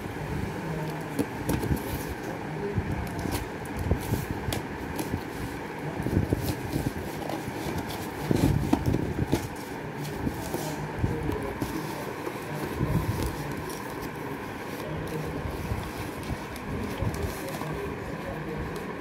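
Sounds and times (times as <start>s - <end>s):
low background hum: 0.0s - 19.0s
hands handling cardboard parcel: 0.7s - 19.0s.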